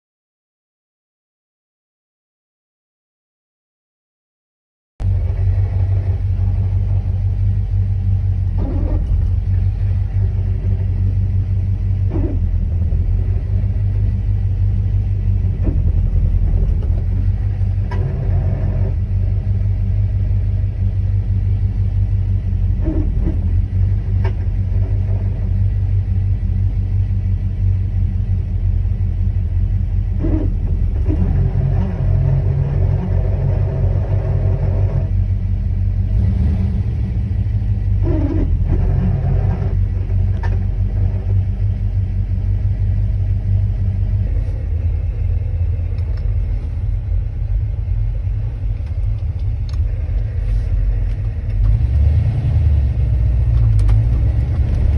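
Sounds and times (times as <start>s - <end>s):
car engine idling: 5.0s - 54.9s
irregular clutch noises: 5.0s - 54.9s.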